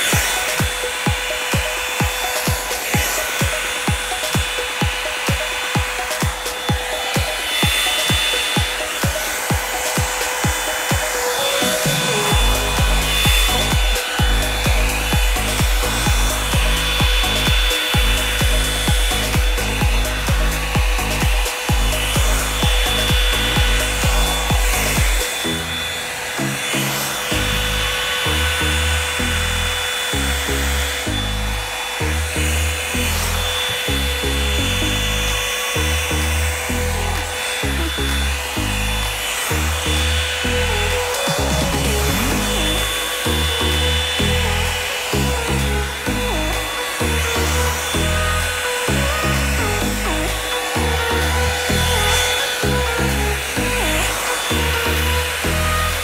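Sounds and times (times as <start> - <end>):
hair dryer whirring: 0.0 - 56.0
music with bass beat: 0.0 - 56.0.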